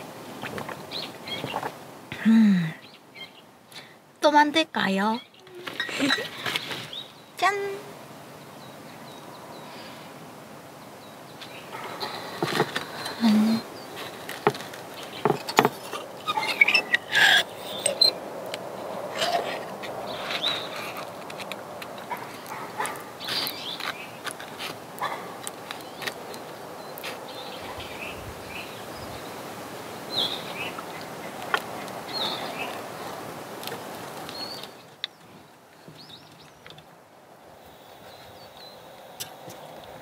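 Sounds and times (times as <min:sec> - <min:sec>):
small birds chirping: 0:00.0 - 0:40.0
steady outdoor hiss: 0:00.0 - 0:40.0.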